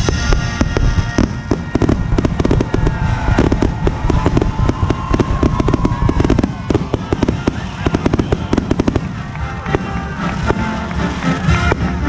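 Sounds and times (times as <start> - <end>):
firework whistling: 0.0 - 12.0
fireworks bangs and crackles: 0.0 - 12.0.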